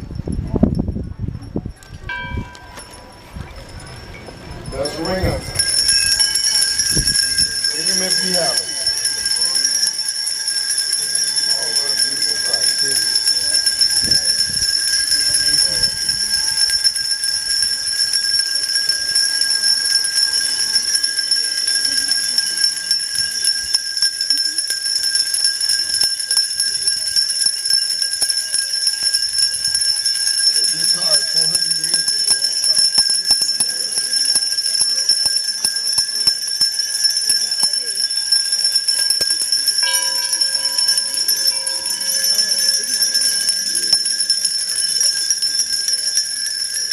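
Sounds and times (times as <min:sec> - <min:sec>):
hand bells ringing: 0:00.0 - 0:46.9
low-pitched bell: 0:00.0 - 0:46.9.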